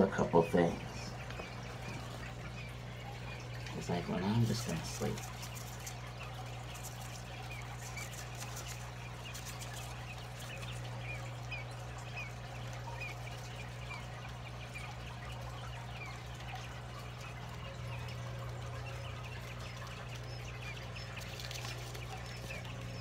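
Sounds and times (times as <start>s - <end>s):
chicks peeping: 0.0s - 23.0s
steady low hum: 0.0s - 23.0s.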